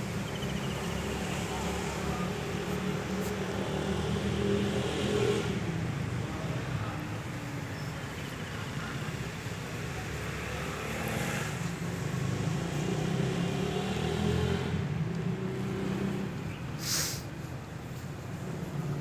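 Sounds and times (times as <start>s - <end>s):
car engines on road: 0.0s - 19.0s
motorcycle engines: 0.0s - 19.0s.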